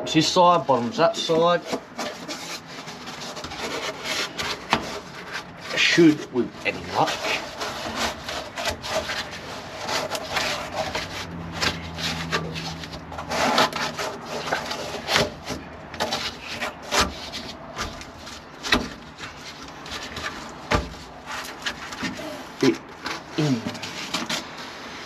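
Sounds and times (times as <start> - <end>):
insulation board rubbing and scraping: 0.0 - 25.0.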